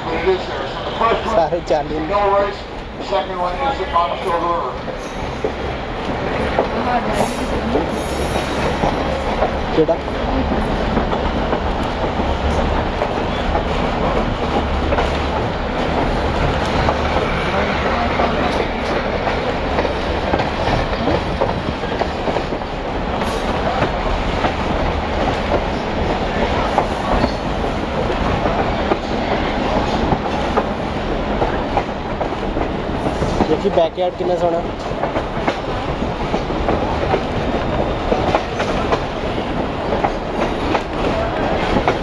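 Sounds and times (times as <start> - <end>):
train wheels rumbling on rail: 0.0 - 42.0
train clicks: 1.3 - 42.0.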